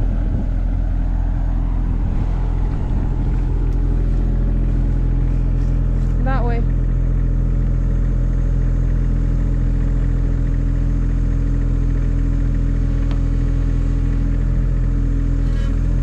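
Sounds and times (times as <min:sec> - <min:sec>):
machine engine humming: 0:00.0 - 0:16.0.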